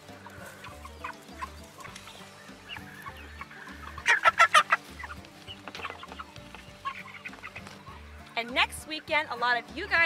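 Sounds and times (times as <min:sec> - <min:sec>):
chickens clucking and peeping: 0:00.0 - 0:10.0
faint background music: 0:00.0 - 0:10.0.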